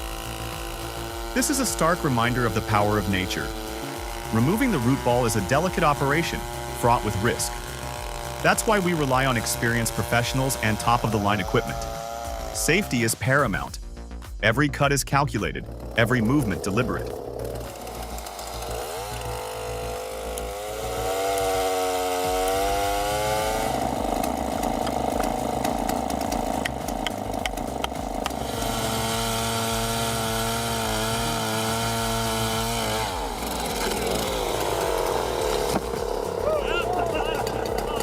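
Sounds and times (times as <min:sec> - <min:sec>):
chainsaw running at high speed: 0:00.0 - 0:14.1, 0:15.1 - 0:38.0.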